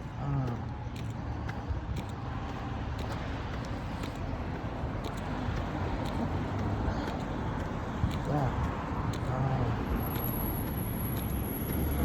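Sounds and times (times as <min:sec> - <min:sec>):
faint light ticks: 0:00.0 - 0:12.0
road traffic rumble: 0:00.0 - 0:12.0.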